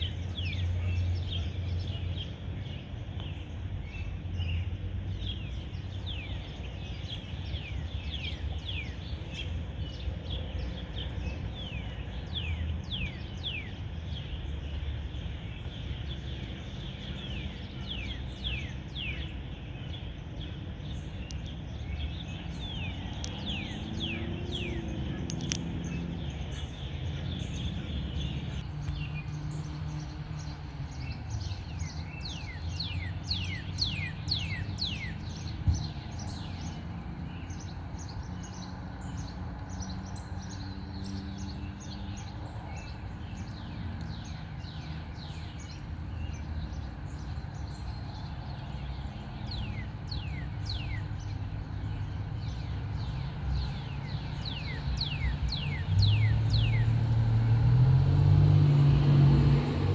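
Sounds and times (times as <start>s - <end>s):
birds chirping: 0.0s - 59.9s
low outdoor rumble: 0.0s - 59.9s.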